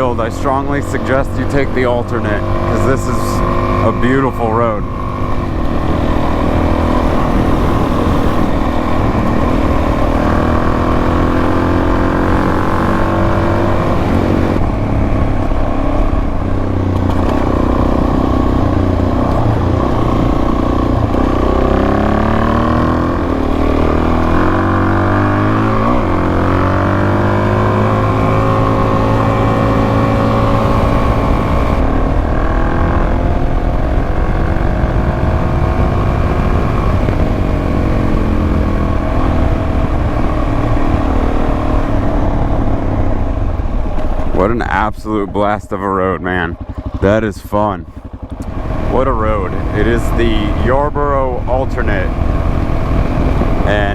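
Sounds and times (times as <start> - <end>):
motorcycle engine revving: 0.0 - 53.9
wind noise: 0.0 - 53.9.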